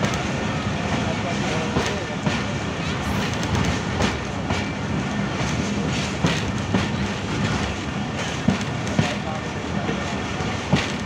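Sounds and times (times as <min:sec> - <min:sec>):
train wheels clacking over rail joints: 0:00.0 - 0:11.0.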